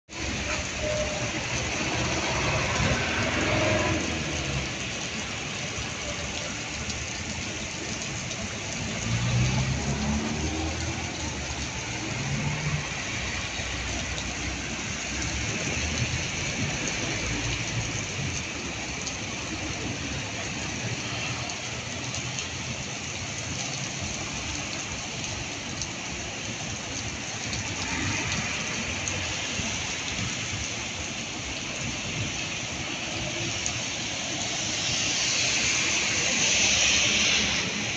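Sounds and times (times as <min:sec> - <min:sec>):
heavy rain on pavement: 0:00.1 - 0:37.9
vehicles passing on wet road: 0:00.1 - 0:37.9.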